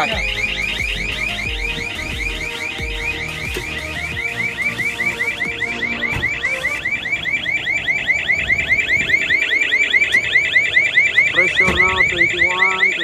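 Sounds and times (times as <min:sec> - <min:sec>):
warbling electronic alarm: 0:00.0 - 0:13.0.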